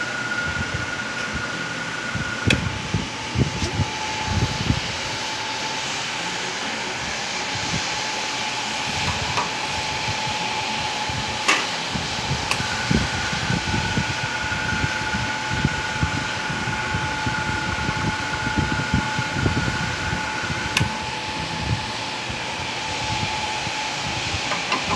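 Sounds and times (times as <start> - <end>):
espresso machine hissing: 0.0 - 24.9
thin steady whine: 0.0 - 24.9.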